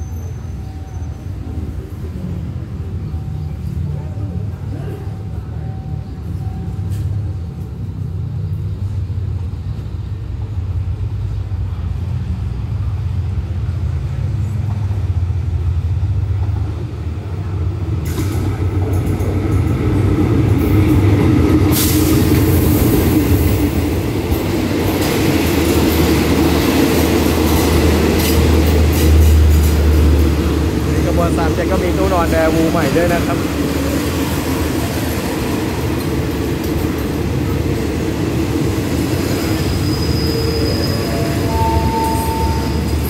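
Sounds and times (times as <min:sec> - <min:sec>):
low train engine hum: 0:00.0 - 0:43.0
train wheels and carriages rolling: 0:00.0 - 0:43.0.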